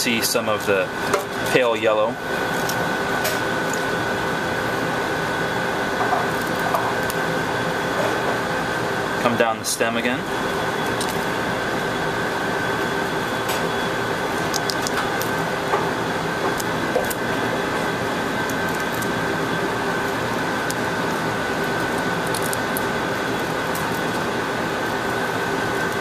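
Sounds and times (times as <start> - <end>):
kitchen ventilation hum: 0.0 - 26.0.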